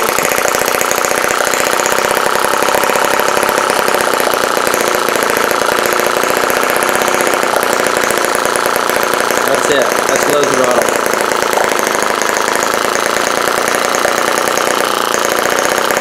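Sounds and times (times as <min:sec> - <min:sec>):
model engine running: 0:00.0 - 0:16.0.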